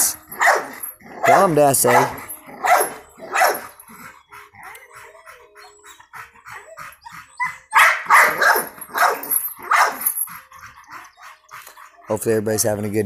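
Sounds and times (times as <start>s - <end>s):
dogs barking: 0.0s - 12.4s.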